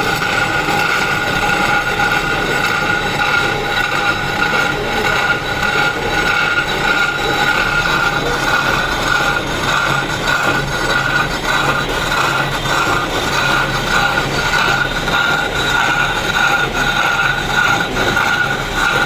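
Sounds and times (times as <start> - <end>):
power tool grinding stone: 0.0 - 19.0.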